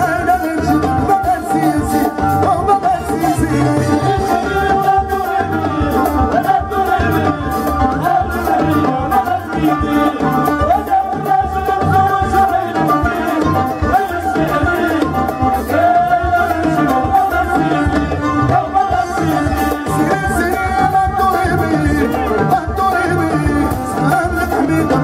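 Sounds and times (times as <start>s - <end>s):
electric guitar: 0.0s - 25.0s
frame drums and hand drums: 0.0s - 25.0s
keyboard: 0.0s - 25.0s
violin melody: 0.0s - 25.0s.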